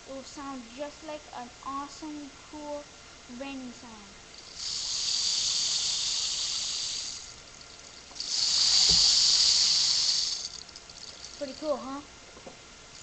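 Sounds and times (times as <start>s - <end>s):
rain-like hiss: 0.0s - 13.0s.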